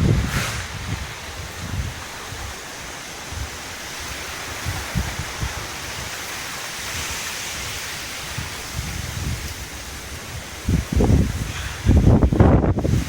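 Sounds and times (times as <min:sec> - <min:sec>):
low buffeting thumps of gusts: 0:00.0 - 0:06.3, 0:06.9 - 0:13.0
wind and driving rain: 0:00.0 - 0:13.0.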